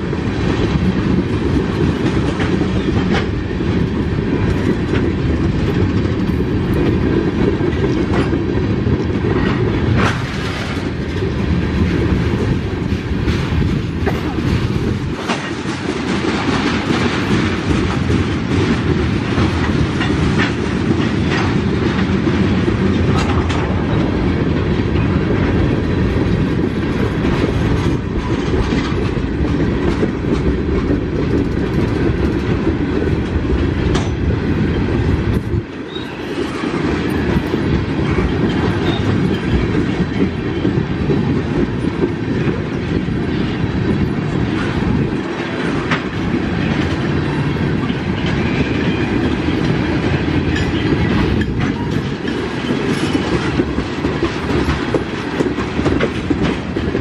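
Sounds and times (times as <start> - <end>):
train wheels rumbling on rail: 0.0 - 57.0
wheels clacking over rail joints: 0.0 - 57.0.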